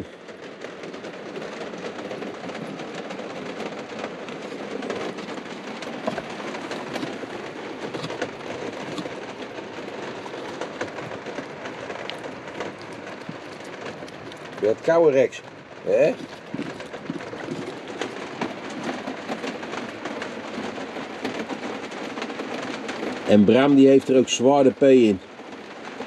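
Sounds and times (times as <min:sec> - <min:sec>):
heavy rain on a roof: 0:00.0 - 0:26.0.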